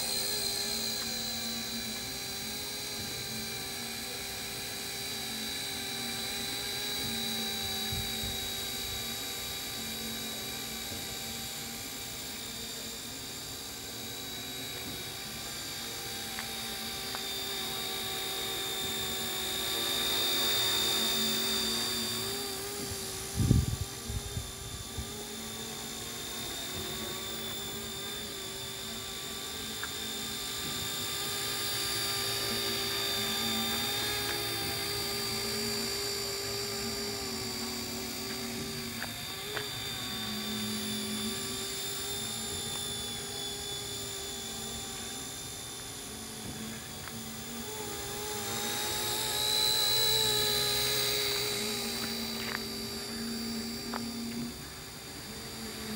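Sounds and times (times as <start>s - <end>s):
model helicopter rotor whine: 0.0s - 55.9s.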